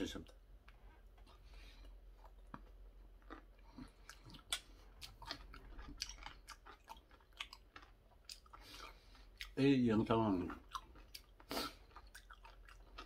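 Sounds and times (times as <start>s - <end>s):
wet chewing and lip smacks: 0.2s - 9.6s, 10.5s - 13.0s.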